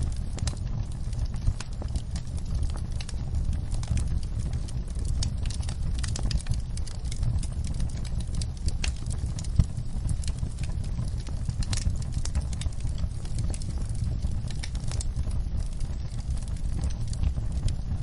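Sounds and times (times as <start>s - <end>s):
low rumble: 0.0s - 18.0s
rain pattering: 0.0s - 18.0s
sharp pops and snaps of fire: 0.0s - 18.0s
wood fire crackling: 0.0s - 18.0s.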